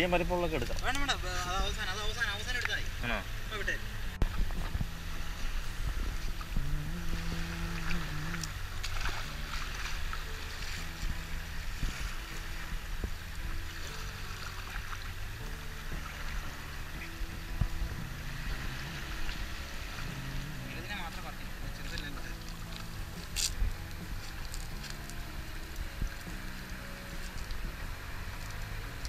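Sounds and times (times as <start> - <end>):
small waves lapping: 0.0 - 29.0
wind rumbling on microphone: 0.0 - 29.0.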